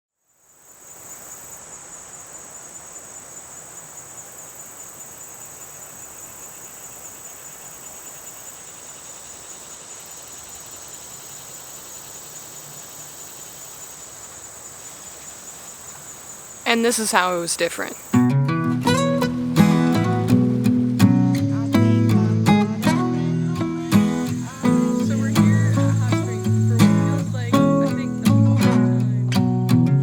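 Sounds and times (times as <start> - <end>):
insects trilling: 0.2 - 18.3, 19.0 - 29.2.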